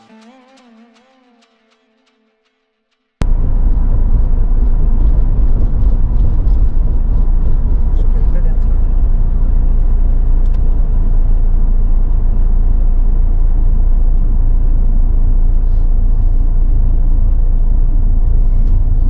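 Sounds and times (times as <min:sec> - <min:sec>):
engine and tyre rumble: 0:03.2 - 0:19.0.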